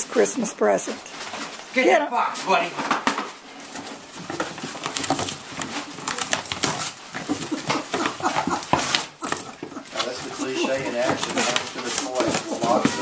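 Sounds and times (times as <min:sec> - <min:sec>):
dog tearing cardboard: 0:01.2 - 0:13.0.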